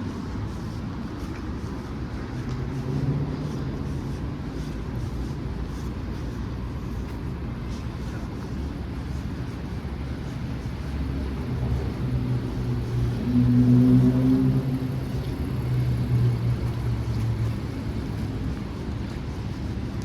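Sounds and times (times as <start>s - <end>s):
traffic rumble: 0.0s - 20.0s
vehicle engine hum: 0.0s - 20.0s.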